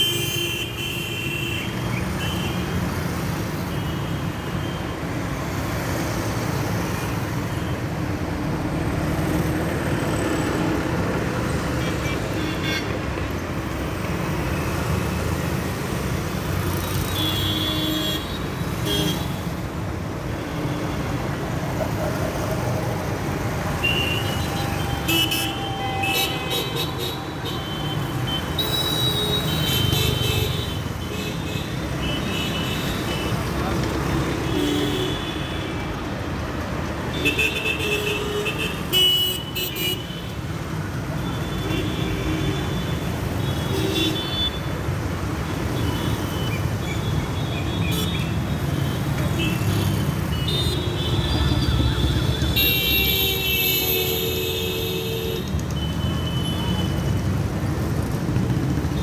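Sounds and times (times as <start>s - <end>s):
traffic rumble: 1.8s - 59.0s.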